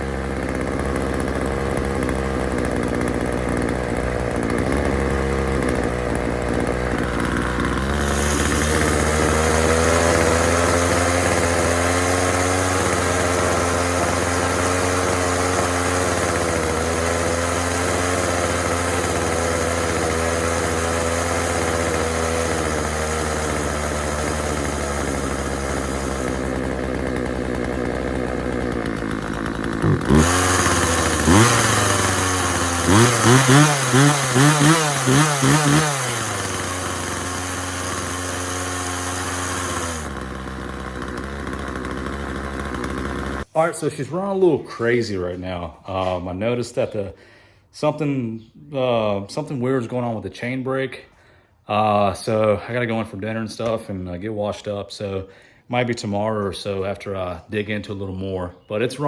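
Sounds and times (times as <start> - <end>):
chainsaw engine running: 0.0 - 47.4.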